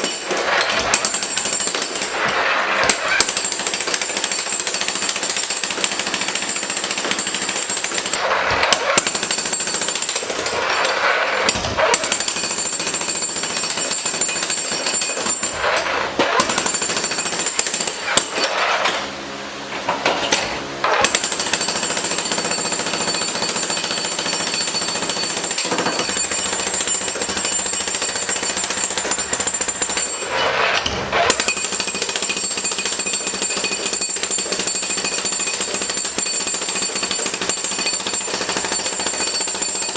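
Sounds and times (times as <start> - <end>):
jackhammer chipping concrete: 0.0 - 39.9.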